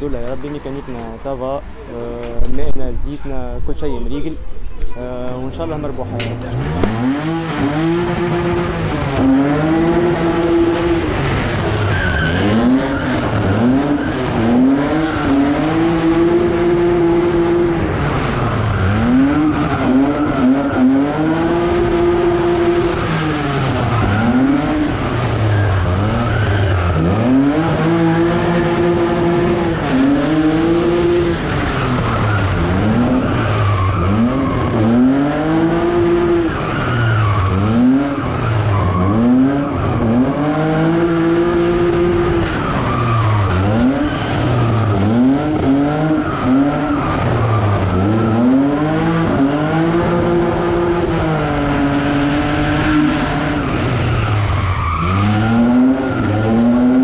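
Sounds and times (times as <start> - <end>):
tyres squealing and skidding: 4.2 - 57.0
car engine revving hard: 6.4 - 57.0.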